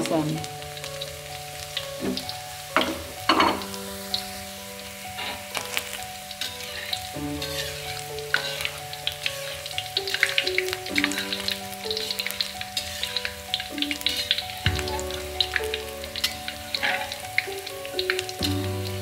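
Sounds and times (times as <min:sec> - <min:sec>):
background music: 0:00.0 - 0:19.0
garlic sizzling in oil: 0:00.0 - 0:19.0.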